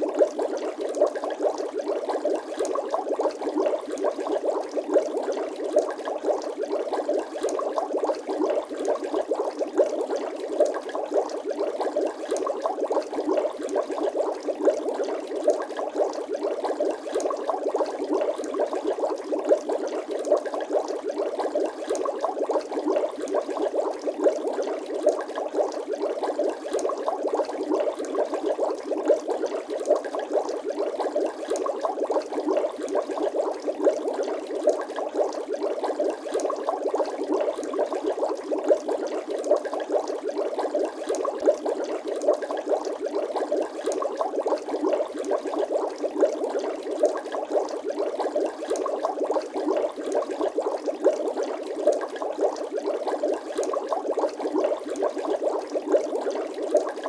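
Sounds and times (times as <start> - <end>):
water bubbling: 0.0 - 57.0.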